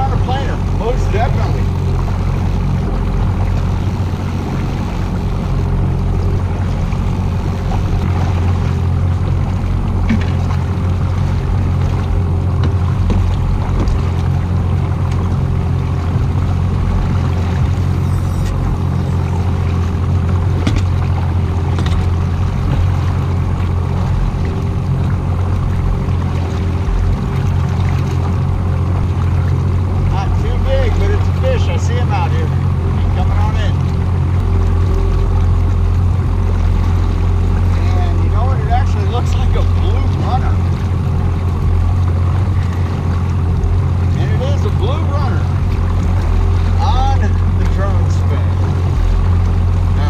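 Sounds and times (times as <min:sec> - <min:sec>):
boat engine running: 0:00.0 - 0:50.0
water noise: 0:00.0 - 0:50.0.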